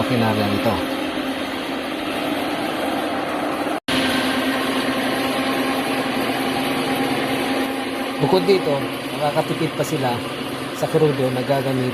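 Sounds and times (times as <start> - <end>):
combine harvester running: 0.0 - 11.9.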